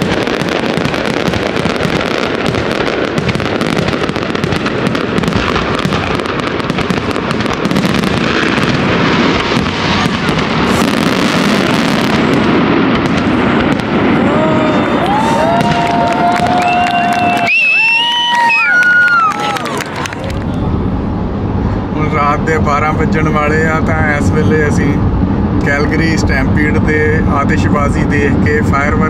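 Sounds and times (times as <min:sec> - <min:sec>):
continuous rumble: 0:00.0 - 0:17.5, 0:18.6 - 0:29.0
fireworks crackling and popping: 0:00.0 - 0:29.0.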